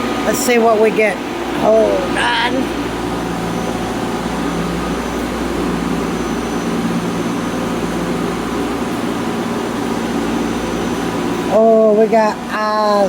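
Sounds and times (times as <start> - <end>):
rushing hum of machinery and air: 0.0 - 13.0.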